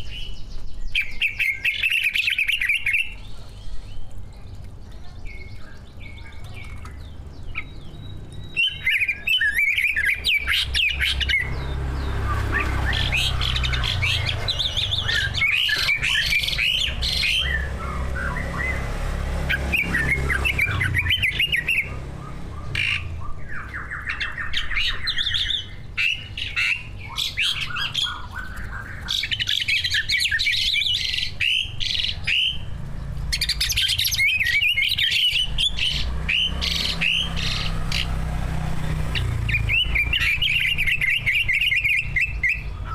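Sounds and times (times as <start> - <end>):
bird singing chirps and whistles: 0.0 - 4.1, 5.2 - 32.7, 33.4 - 38.1, 39.2 - 42.9.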